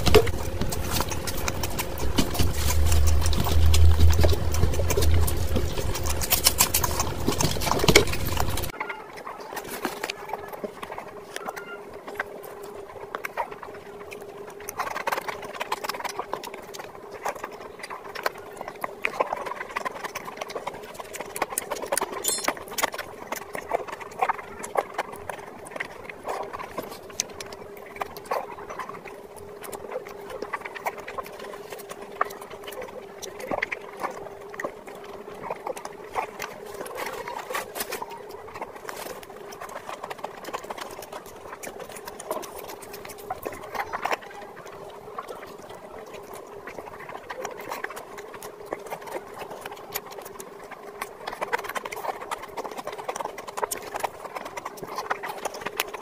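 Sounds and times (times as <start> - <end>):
clicks and squelches of eating: 0.0 - 56.0
faint steady hum: 0.0 - 56.0
wet chewing and lip smacking: 0.0 - 56.0.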